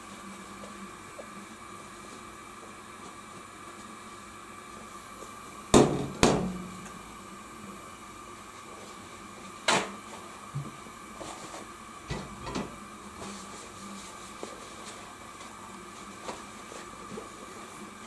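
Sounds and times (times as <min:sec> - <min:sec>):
steady hum: 0:00.0 - 0:17.5
pot boiling under glass lid: 0:00.0 - 0:18.0.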